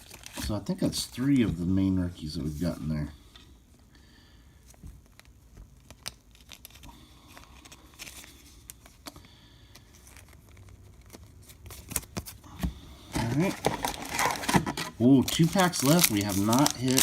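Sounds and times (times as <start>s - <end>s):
foil wrappers rustling and crinkling: 0.0s - 1.5s, 4.6s - 17.0s.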